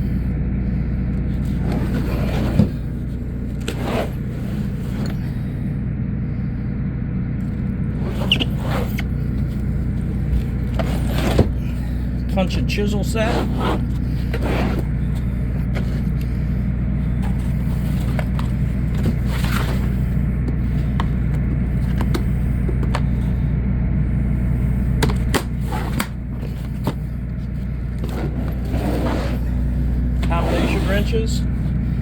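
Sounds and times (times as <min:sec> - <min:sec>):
low mechanical drone: 0:00.0 - 0:32.0.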